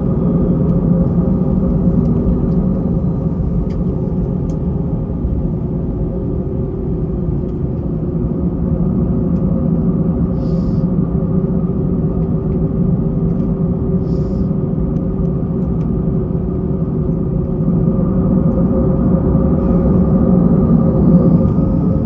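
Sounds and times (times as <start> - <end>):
airliner engine hum: 0.0 - 22.0.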